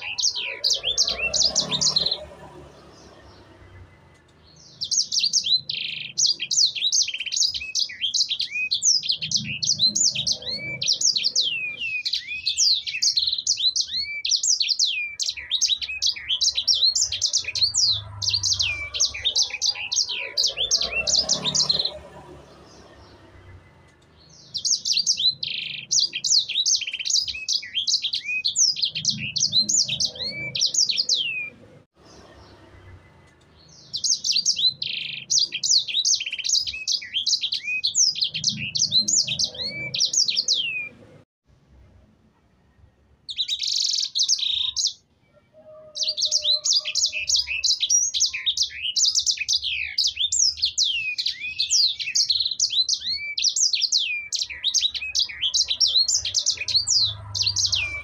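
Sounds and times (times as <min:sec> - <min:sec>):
songbird singing trills: 0:00.0 - 0:41.0, 0:43.3 - 0:58.0.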